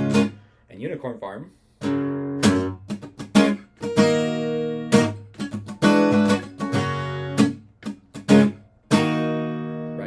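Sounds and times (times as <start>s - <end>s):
acoustic guitar strumming chords: 0.0s - 0.6s, 1.8s - 10.0s.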